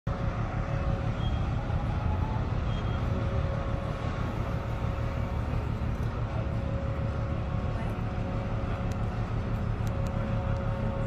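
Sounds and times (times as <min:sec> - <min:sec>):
boat engine rumble: 0:00.1 - 0:11.0.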